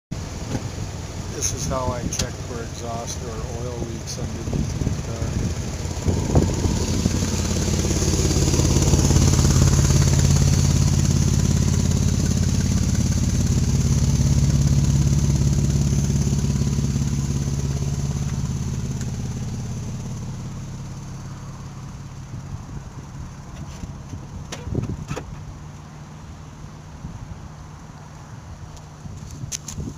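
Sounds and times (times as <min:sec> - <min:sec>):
car engine idling: 0:00.1 - 0:29.6.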